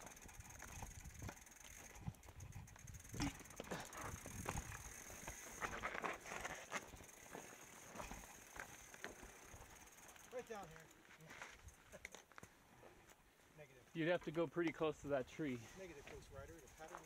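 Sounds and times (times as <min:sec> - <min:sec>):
mountain bike rattling over rocks: 0:00.0 - 0:12.5, 0:14.0 - 0:17.0.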